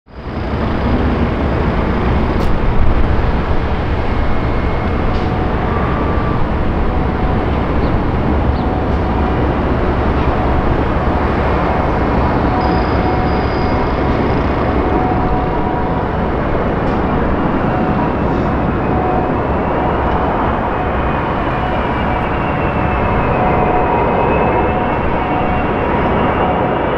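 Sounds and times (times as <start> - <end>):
airliner engines rumbling: 0.1 - 26.9.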